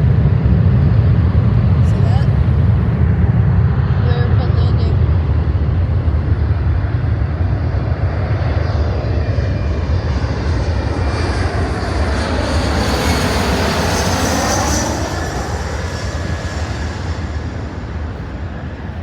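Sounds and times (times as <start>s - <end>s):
high jet engine whine: 0.0s - 19.0s
jet airliner passing overhead: 0.0s - 19.0s.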